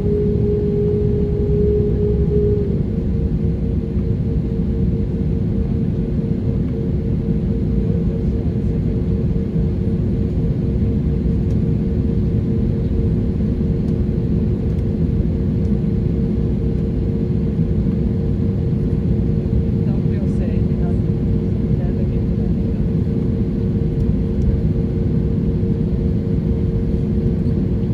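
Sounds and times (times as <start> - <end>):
airliner engines rumbling: 0.0 - 27.9.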